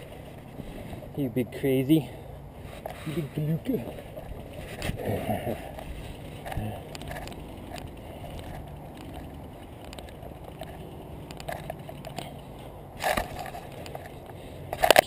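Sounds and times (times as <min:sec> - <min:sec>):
bike tyres rolling over grass: 0:00.0 - 0:15.0.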